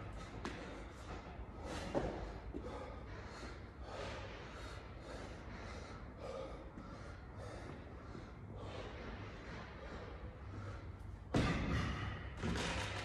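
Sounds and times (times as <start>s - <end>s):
man breathing hard: 0.0s - 12.4s.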